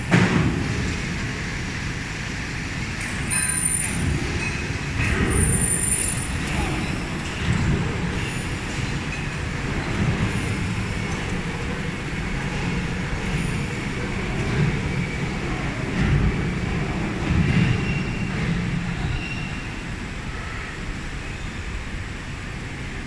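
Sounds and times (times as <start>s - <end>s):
machinery rumble: 0.0s - 22.8s.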